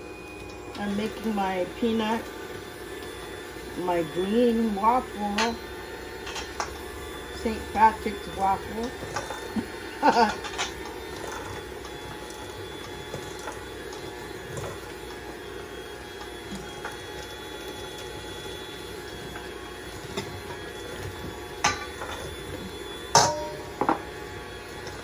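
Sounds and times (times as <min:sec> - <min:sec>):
electric hand mixer whisking: 0:00.0 - 0:25.0.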